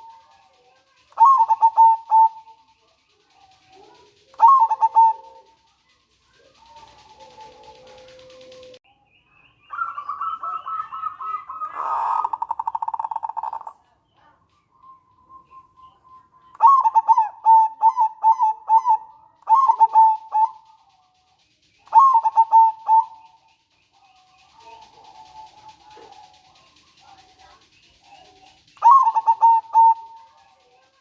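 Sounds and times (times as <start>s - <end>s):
dove rattling trill: 0.0s - 8.8s, 9.7s - 31.0s
dove staccato cooing: 0.0s - 8.8s, 10.0s - 14.4s, 16.5s - 31.0s.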